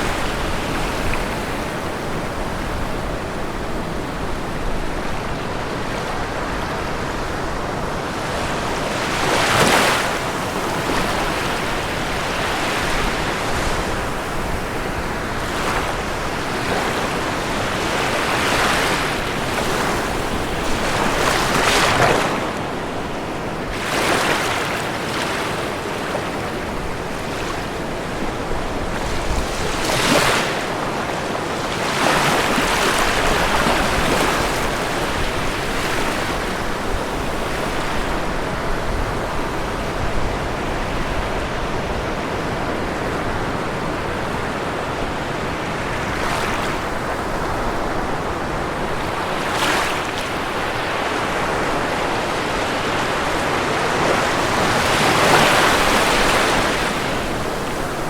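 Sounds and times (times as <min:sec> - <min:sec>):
ocean waves crashing on shore: 0:00.0 - 0:58.0.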